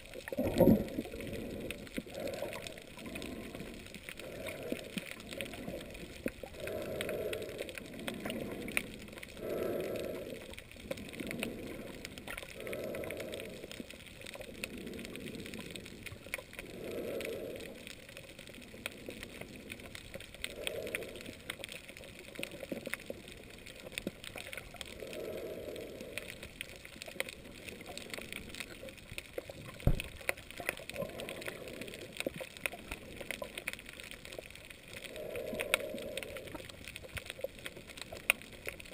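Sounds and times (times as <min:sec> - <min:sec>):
soft water surges: 0:00.0 - 0:38.9.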